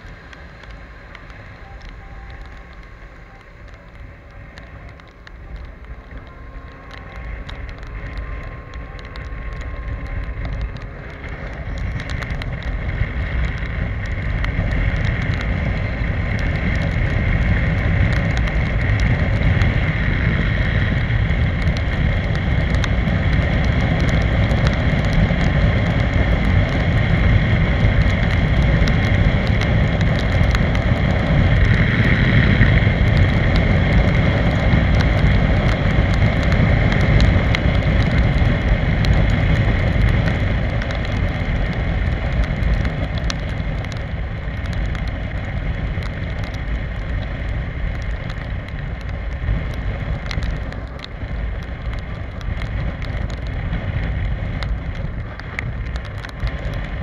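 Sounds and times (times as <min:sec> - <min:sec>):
wet road tyre noise: 0:00.0 - 0:57.0
wind rush: 0:00.0 - 0:57.0.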